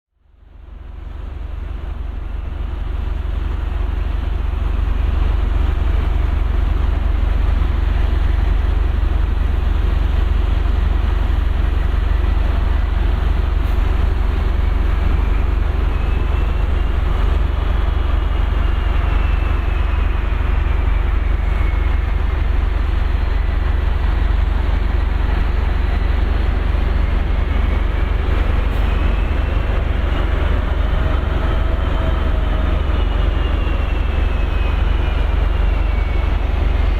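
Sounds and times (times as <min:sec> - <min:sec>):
heavy rumble with rushing hiss: 0:00.5 - 0:36.9.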